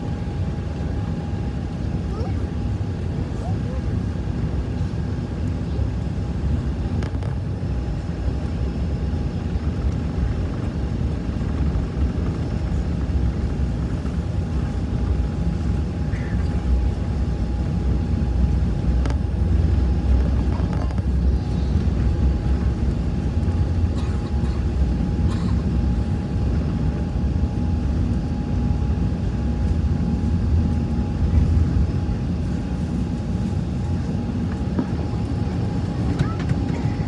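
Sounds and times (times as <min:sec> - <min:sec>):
airliner engines rumbling: 0:00.0 - 0:37.0.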